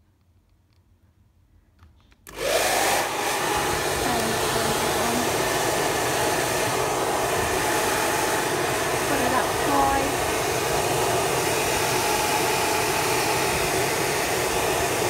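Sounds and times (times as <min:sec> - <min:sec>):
hair dryer blowing air: 0:02.3 - 0:15.0.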